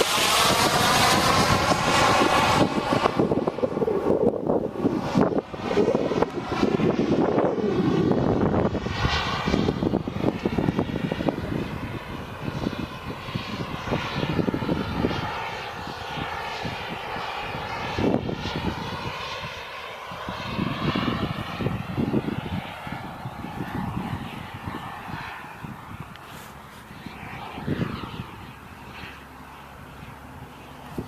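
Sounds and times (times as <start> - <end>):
jet turbine engine whining: 0.0 - 31.0.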